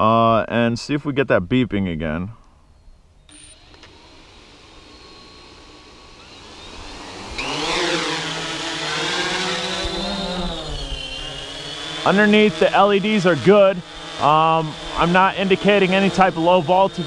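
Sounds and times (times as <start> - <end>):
drone motors whining: 3.2 - 17.0.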